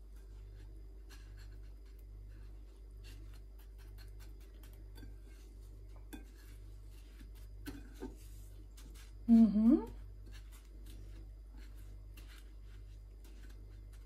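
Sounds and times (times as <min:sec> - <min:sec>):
breadcrumbs rustling and crackling: 0:00.0 - 0:14.0
steady low hum: 0:00.0 - 0:14.0.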